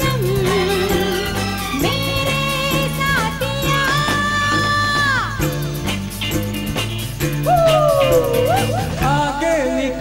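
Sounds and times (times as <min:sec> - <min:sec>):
bass line: 0:00.0 - 0:10.0
drums: 0:00.0 - 0:10.0.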